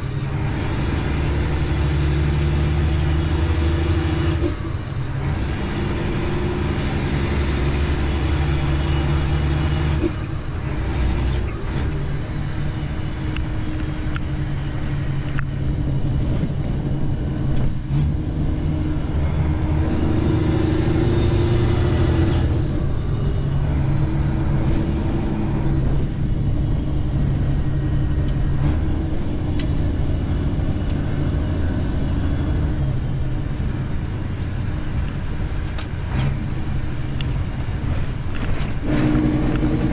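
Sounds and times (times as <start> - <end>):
truck diesel engine: 0.0 - 39.9.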